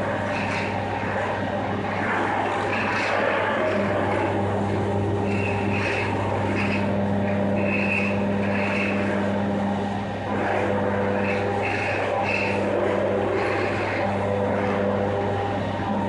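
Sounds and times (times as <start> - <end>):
machine humming: 0.0 - 16.0
high-pitched squeals: 0.2 - 16.0.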